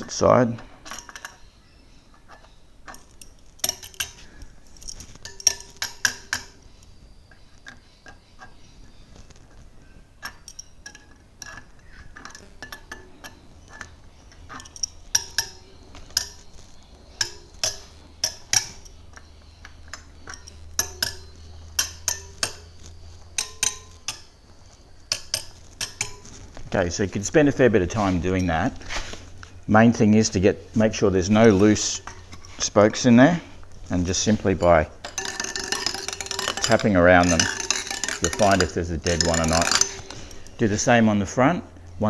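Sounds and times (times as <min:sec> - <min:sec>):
metal tool tapping wheel spokes: 0:00.0 - 0:42.0.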